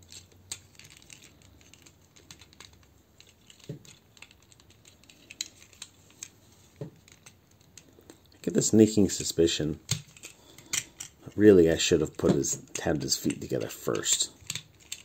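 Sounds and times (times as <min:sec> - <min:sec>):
plastic toy parts clicking: 0:00.0 - 0:07.9, 0:09.8 - 0:11.5, 0:12.2 - 0:15.0.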